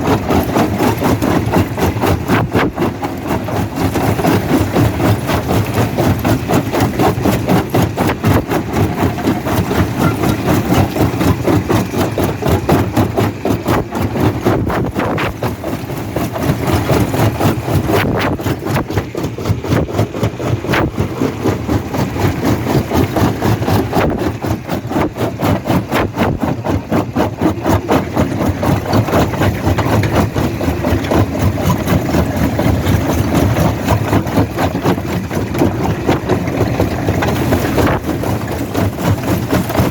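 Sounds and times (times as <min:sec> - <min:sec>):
jaw crusher machine drone: 0:00.0 - 0:39.9.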